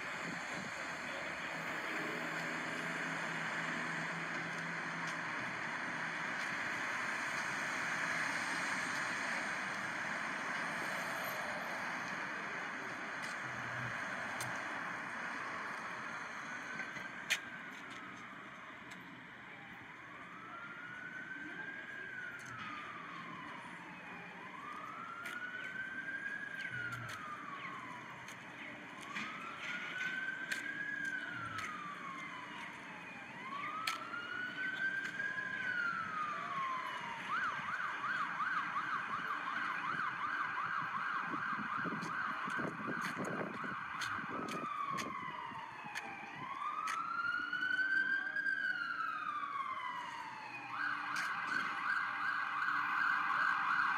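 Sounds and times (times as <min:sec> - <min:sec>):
emergency siren wailing and yelping: 0:00.0 - 0:53.9
traffic rumbling: 0:00.0 - 0:53.9.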